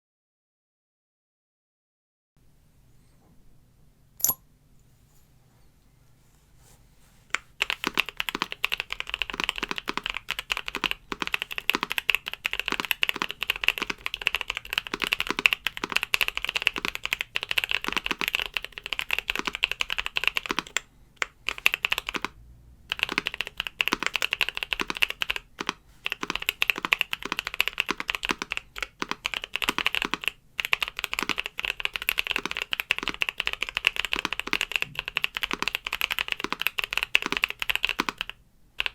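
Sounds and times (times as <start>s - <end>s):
mechanical keyboard typing: 7.3s - 38.9s.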